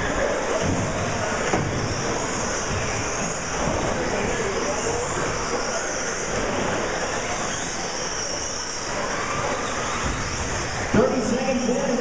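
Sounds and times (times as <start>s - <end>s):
steady rushing noise: 0.0s - 12.0s
rc truck motors whining: 1.2s - 10.9s.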